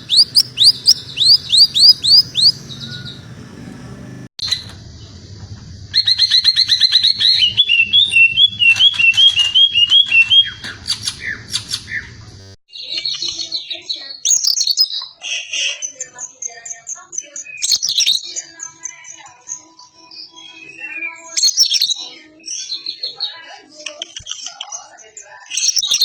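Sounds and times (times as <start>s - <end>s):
bird singing: 0.0s - 26.0s.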